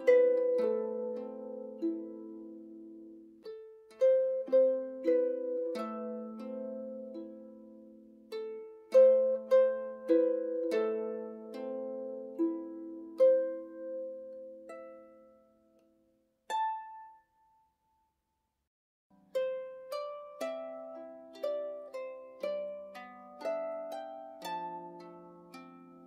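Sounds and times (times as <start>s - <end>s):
harp playing slow music: 0.0s - 17.7s, 19.1s - 26.0s.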